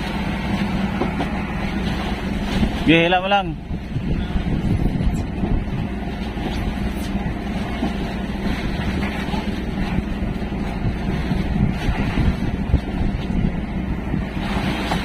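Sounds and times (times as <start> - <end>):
boat engine rumbling: 0.0 - 15.0
water noise: 0.0 - 15.0
wind: 0.0 - 15.0.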